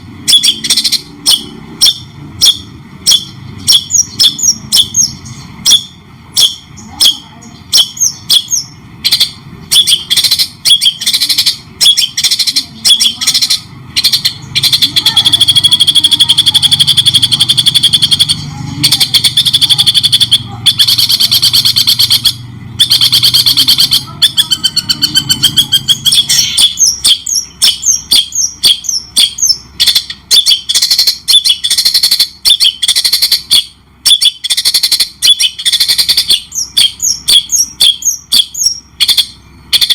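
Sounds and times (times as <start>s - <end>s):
bird singing with trills: 0.0s - 39.9s.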